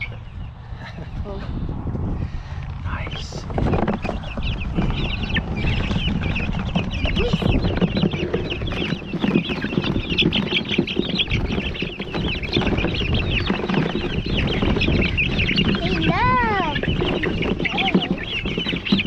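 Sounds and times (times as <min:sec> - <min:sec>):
chickens cheeping: 0:00.0 - 0:19.0
low rumble: 0:00.0 - 0:19.0.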